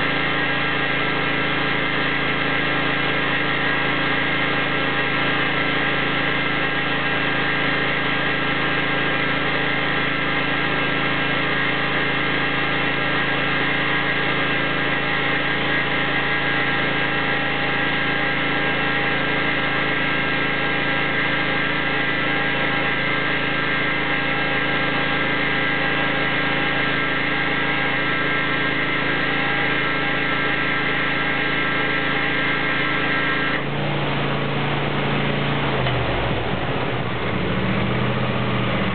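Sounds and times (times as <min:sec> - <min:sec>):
riding mower engine running: 0:00.0 - 0:38.9.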